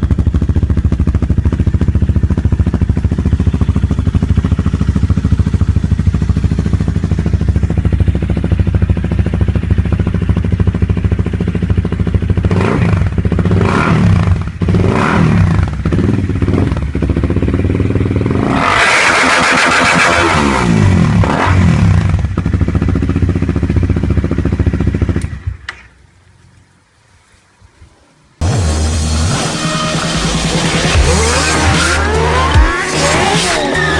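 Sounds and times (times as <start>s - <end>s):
motorcycle engine idling and revving: 0.0s - 26.0s, 28.4s - 33.9s.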